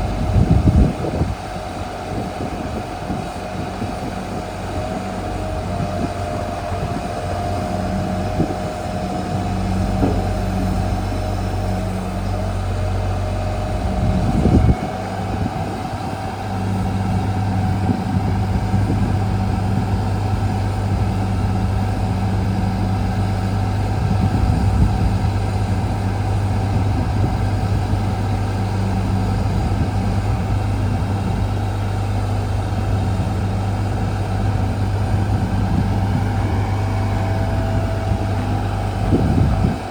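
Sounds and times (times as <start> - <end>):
diesel engine running: 0.0 - 39.9
steady whine: 0.0 - 39.9.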